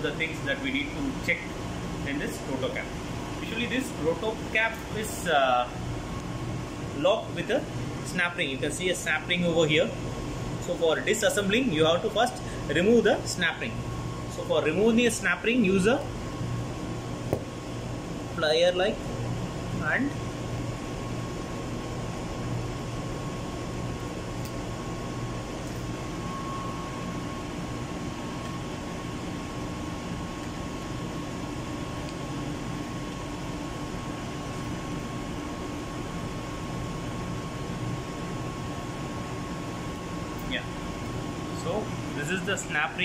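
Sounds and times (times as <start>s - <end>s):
air conditioner running: 0.0s - 43.0s.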